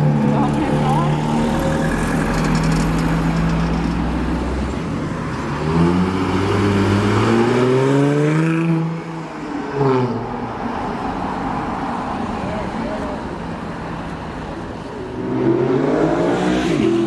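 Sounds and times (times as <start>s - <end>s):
car engine and exhaust revving: 0.0s - 12.2s, 14.0s - 17.0s.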